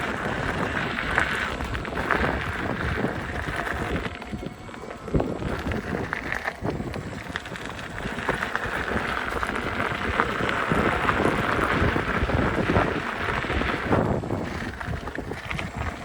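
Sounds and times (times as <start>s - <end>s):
tyre rolling over rough trail: 0.0s - 16.0s
wind on microphone: 0.0s - 16.0s.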